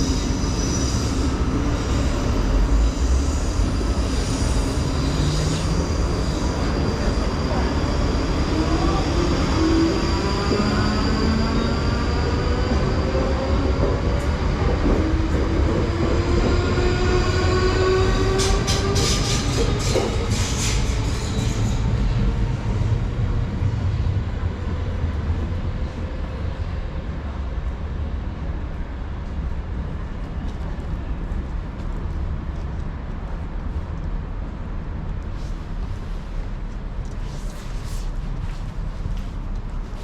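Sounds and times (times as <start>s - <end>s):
underground train rumbling: 0.0s - 40.0s.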